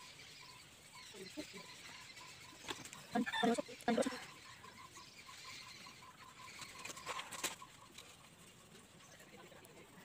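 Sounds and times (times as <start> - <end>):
faint high pulsing tone: 0.0 - 10.0.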